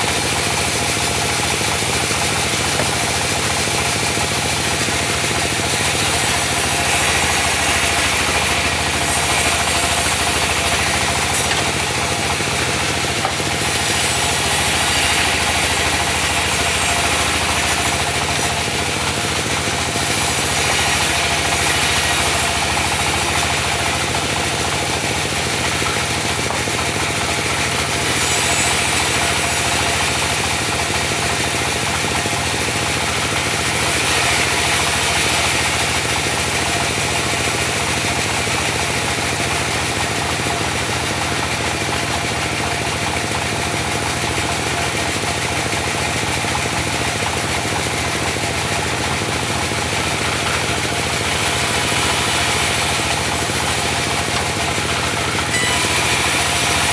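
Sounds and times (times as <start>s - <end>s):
diesel engine knocking under load: 0.0s - 28.2s, 28.8s - 56.9s.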